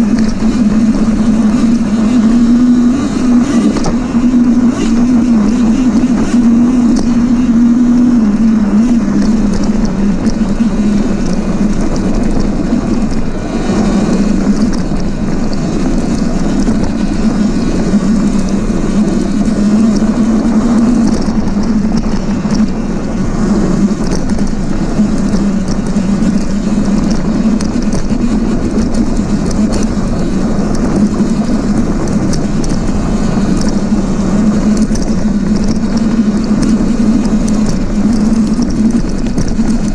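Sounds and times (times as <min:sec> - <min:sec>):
electric motor hum: 0:00.0 - 0:39.9
knocks and rattles: 0:00.0 - 0:39.9
rushing noise: 0:00.0 - 0:39.9.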